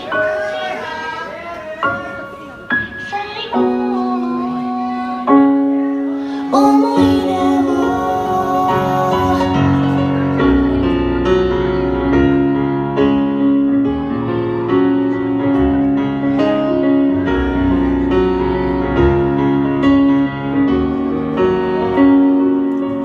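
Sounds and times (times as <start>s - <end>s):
piano song: 0.0s - 23.0s.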